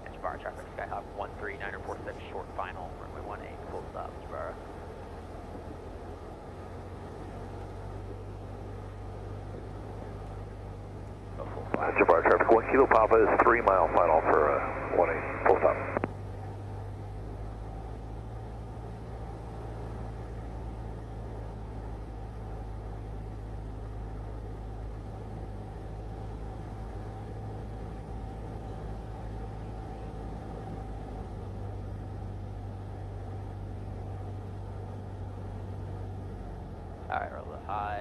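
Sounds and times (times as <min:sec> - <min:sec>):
aircraft engine and propeller droning: 0:00.0 - 0:38.0.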